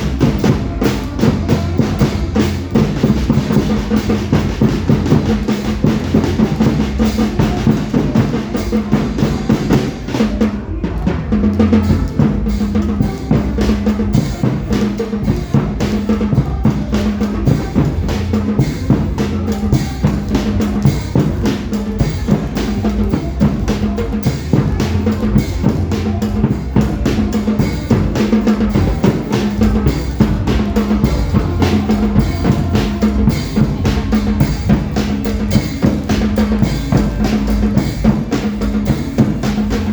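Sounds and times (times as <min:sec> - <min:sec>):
loud drum-driven music: 0:00.0 - 0:39.9.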